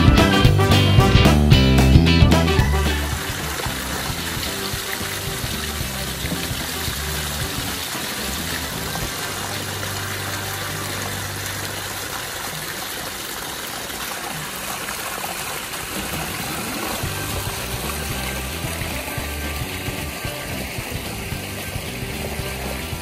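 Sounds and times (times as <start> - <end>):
background music with bass: 0.0 - 12.4, 16.9 - 23.0
running water: 0.0 - 23.0.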